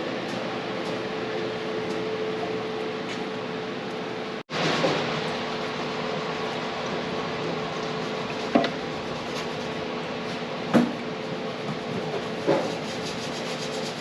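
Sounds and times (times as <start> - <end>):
shop noise hum: 0.0 - 14.0.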